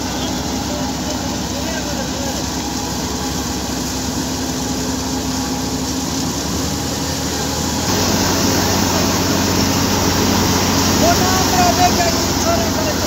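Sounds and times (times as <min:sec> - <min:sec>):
thresher mechanical drone: 0:00.0 - 0:13.0.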